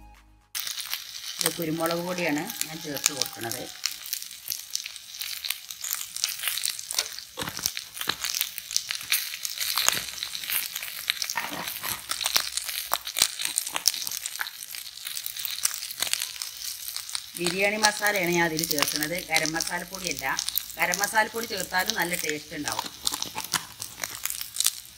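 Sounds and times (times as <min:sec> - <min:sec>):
meat sizzling in a pot: 0:00.6 - 0:24.9.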